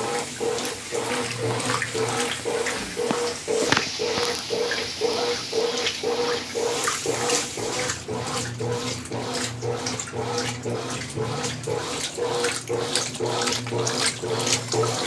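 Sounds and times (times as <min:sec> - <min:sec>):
washing machine motor pulsing: 0:00.0 - 0:15.0
water and clothes sloshing: 0:00.0 - 0:15.0.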